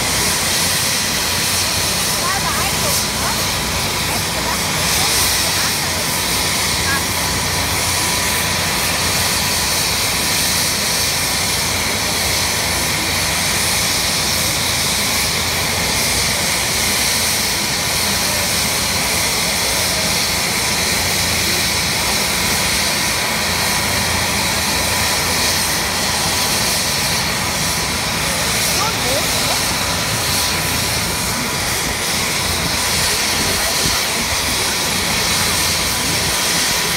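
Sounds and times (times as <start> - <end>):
helicopter engines and rotor whine: 0.0 - 36.9.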